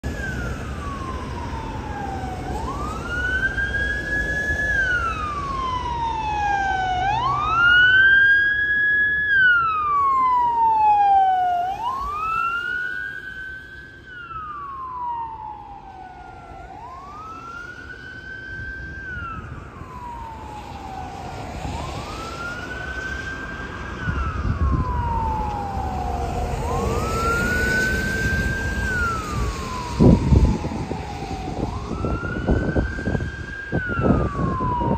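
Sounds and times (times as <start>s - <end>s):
ambulance siren wailing: 0.0s - 34.9s
higher siren sweeping: 0.0s - 34.9s
road traffic rumble: 0.0s - 34.9s.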